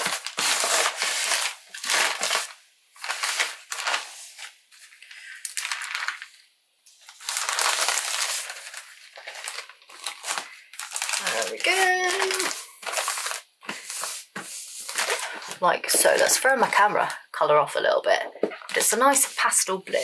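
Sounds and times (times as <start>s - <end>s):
plastic mailer bag crinkling: 0.0s - 17.2s.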